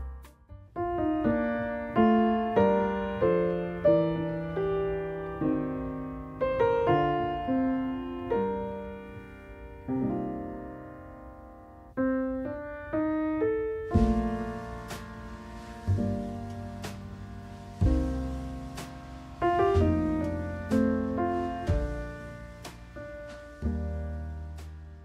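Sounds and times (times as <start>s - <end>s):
solo piano: 0.0s - 25.0s.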